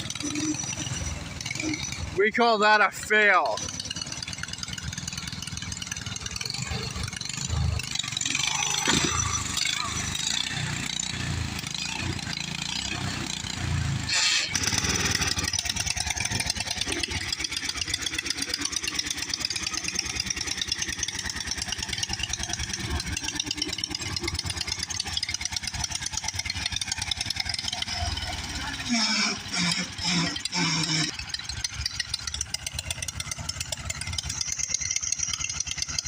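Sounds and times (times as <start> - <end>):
small engine puttering: 0.0 - 36.0.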